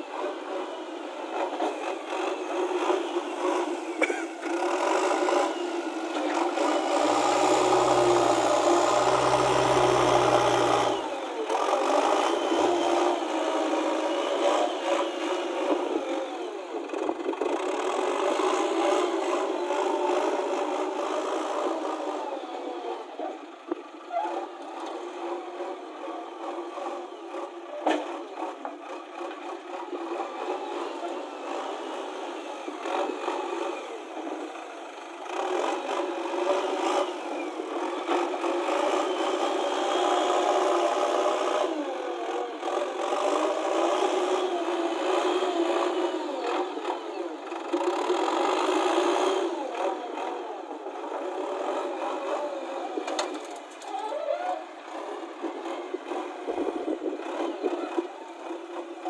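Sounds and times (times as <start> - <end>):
diesel engine revving: 0.0 - 59.0.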